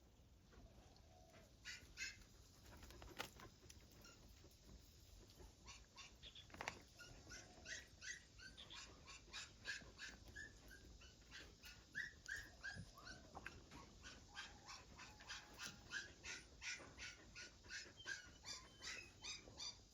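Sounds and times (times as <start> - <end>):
dogs whimpering and yipping: 1.1 - 4.6, 5.4 - 19.9.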